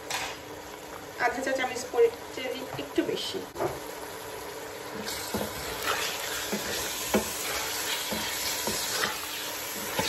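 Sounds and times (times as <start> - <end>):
chicken sizzling in a pot: 0.0 - 10.0.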